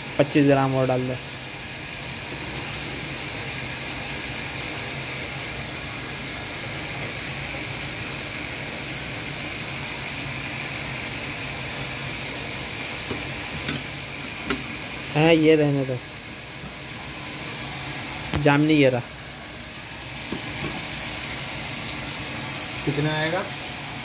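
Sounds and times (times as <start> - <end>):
machinery humming and hissing: 0.0 - 24.0.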